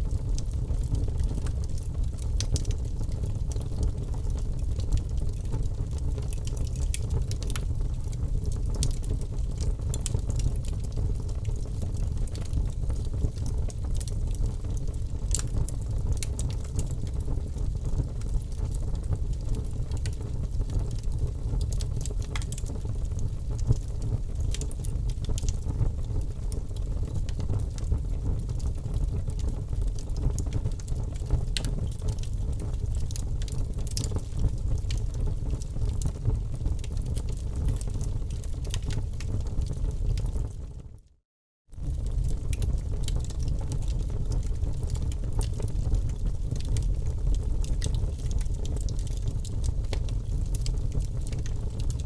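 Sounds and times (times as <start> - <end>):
fire crackles and pops: 0.0 - 40.7, 41.7 - 52.0
wood fire rumbling: 0.1 - 40.6, 41.7 - 52.0.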